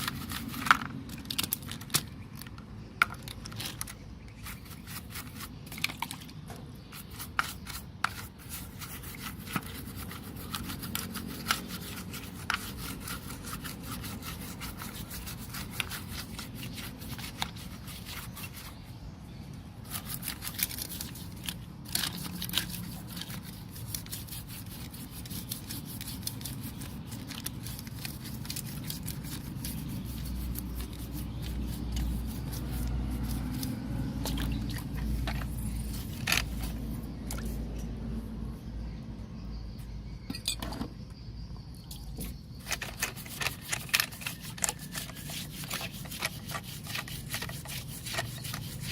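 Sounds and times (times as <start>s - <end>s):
scraping and rubbing: 0.0s - 19.0s, 19.8s - 37.6s, 42.2s - 48.9s.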